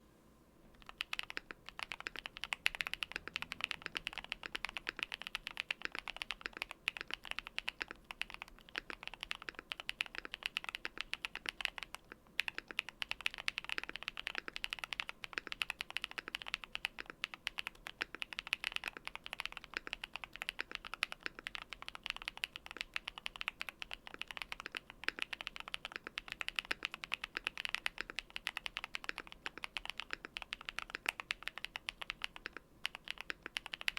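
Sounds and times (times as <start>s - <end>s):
mechanical keyboard typing: 0.8s - 33.9s.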